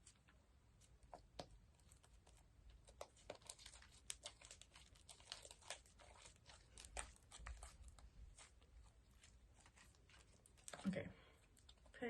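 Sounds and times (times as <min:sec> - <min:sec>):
slime crackling and popping: 0:01.1 - 0:11.0.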